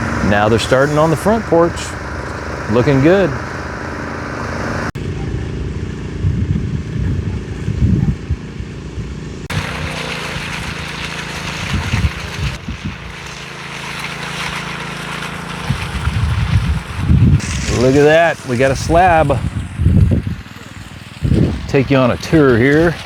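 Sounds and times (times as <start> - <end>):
low rumbles: 0.0 - 13.2, 15.6 - 23.0
machinery engines droning: 0.0 - 23.0.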